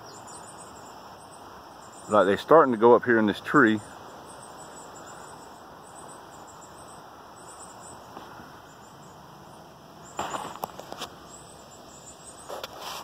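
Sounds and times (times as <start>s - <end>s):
bee swarm humming: 0.0s - 13.0s
faint insect chirps: 0.0s - 13.0s.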